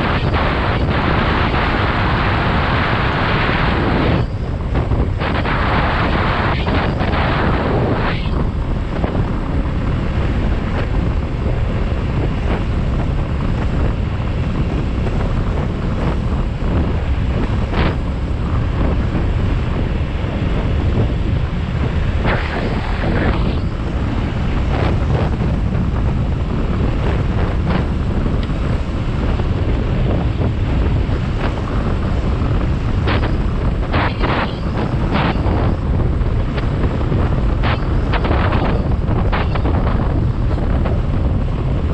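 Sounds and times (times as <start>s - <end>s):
motorcycle running: 0.0s - 41.9s
road noise: 0.0s - 41.9s
wind buffeting microphone: 0.0s - 41.9s.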